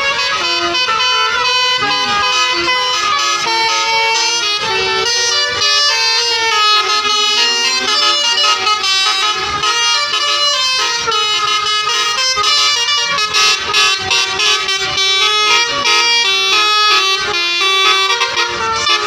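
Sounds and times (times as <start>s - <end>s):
musical bus air horns: 0.0s - 19.0s.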